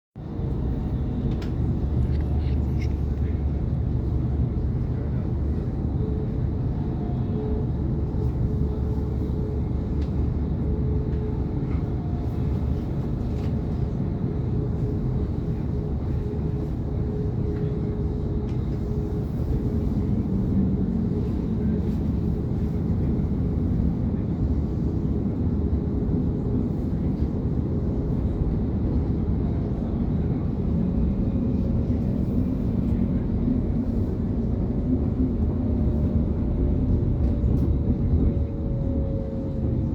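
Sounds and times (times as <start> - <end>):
electric train rumbling: 0.2 - 39.9.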